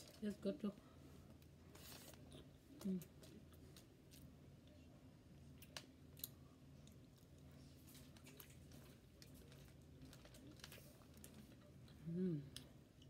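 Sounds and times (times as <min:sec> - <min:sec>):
low room hum: 0:00.0 - 0:13.0
faint chewing of food: 0:01.1 - 0:13.0.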